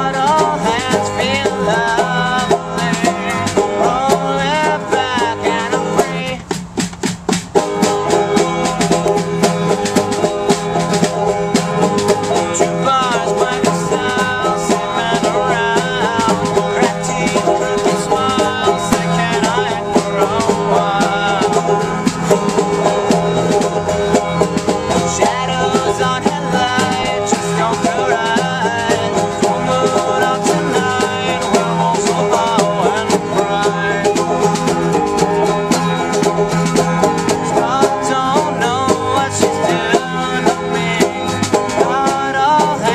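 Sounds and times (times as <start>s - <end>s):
person singing: 0.0s - 6.4s, 7.6s - 42.9s
banjo: 0.0s - 42.9s
hand drum beating: 0.0s - 42.9s
strummed acoustic guitar: 0.0s - 42.9s.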